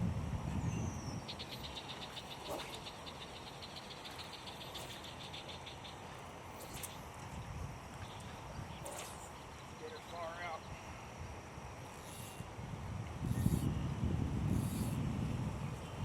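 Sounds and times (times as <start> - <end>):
low wind-like rumble: 0.0 - 3.4, 6.3 - 16.0.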